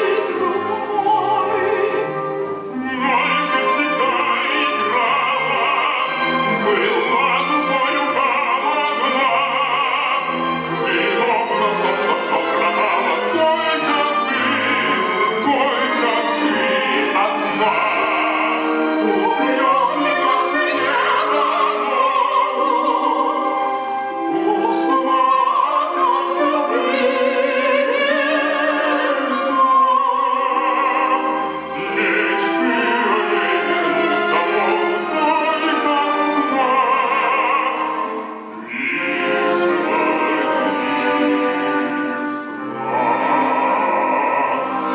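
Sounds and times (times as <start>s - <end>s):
operatic singing with vibrato: 0.0s - 44.9s
orchestra playing: 0.0s - 44.9s.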